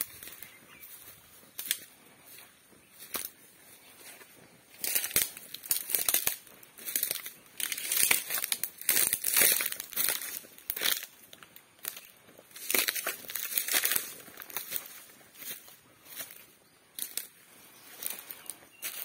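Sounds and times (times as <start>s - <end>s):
footsteps crunching on dry leaves: 0.0s - 19.0s.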